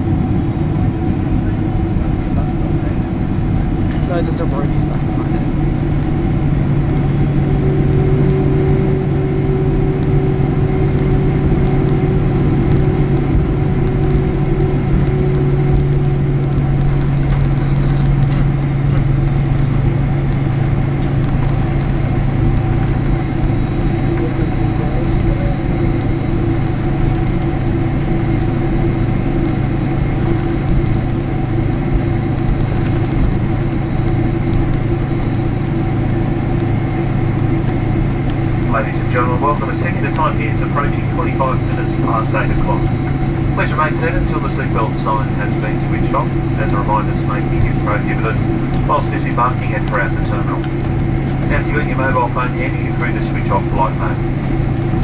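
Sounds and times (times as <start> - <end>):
jet airliner cabin drone: 0.0 - 55.0.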